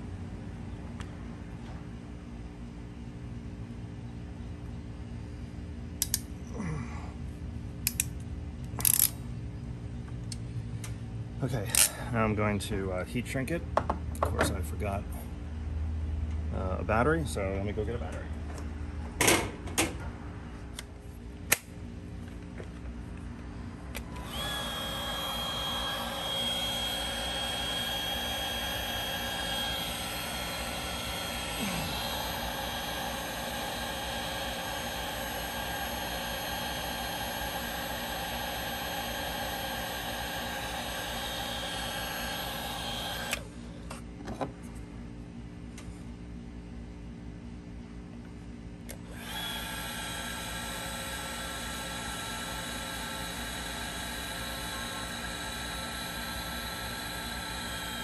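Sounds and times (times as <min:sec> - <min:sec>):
heat gun fan whining: 0:00.0 - 0:09.4, 0:10.0 - 0:15.3, 0:16.1 - 0:58.0.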